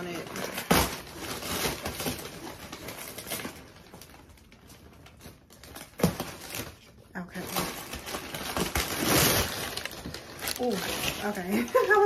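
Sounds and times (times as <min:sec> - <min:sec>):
paper and cardboard rustling: 0:00.0 - 0:12.0.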